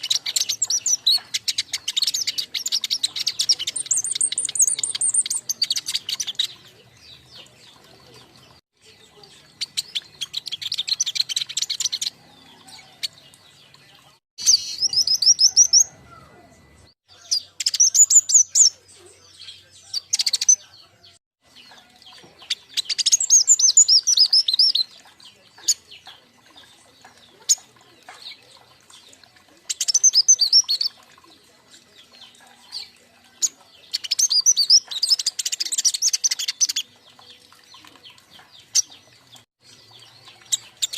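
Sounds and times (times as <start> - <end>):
young birds chirping and trilling: 0.0 - 40.9.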